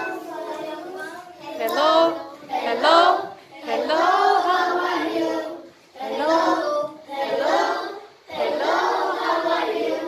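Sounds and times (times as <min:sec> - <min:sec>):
children singing in unison: 0:00.0 - 0:10.0.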